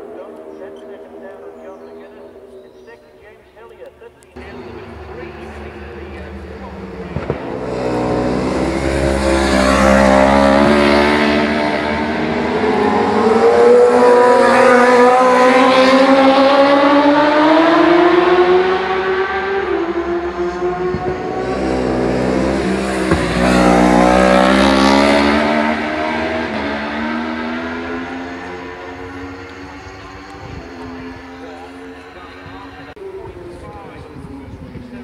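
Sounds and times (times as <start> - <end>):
race motorcycles passing at high revs: 0.0 - 35.0.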